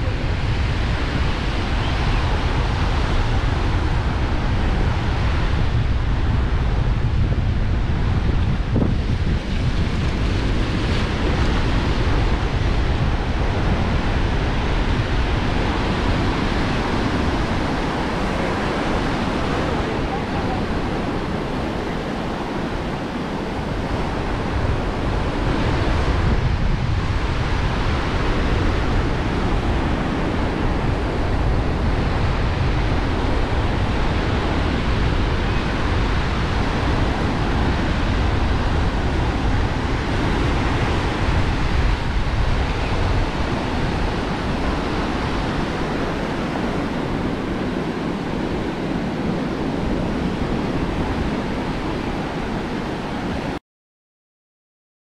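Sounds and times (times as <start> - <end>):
ocean surf breaking: 0.0 - 53.6
wind noise on microphone: 0.0 - 53.6.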